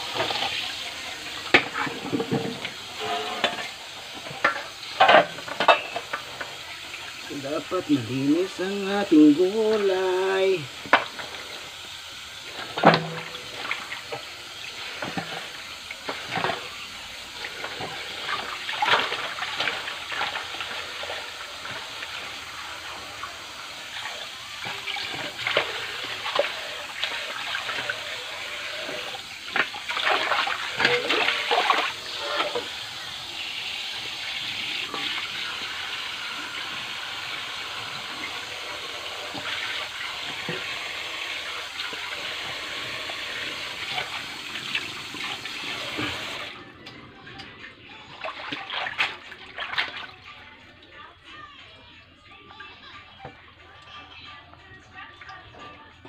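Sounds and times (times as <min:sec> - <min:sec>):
tap water pouring into steel basin: 0:00.0 - 0:47.0.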